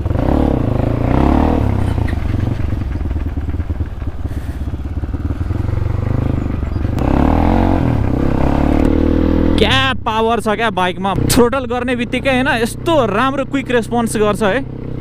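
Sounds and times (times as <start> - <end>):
motorcycle engine revving: 0.0 - 10.1, 11.0 - 15.0.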